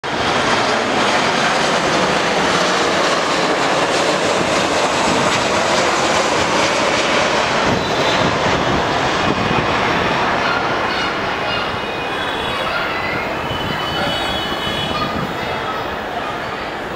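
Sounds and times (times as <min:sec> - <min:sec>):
train rushing noise: 0:00.0 - 0:16.9.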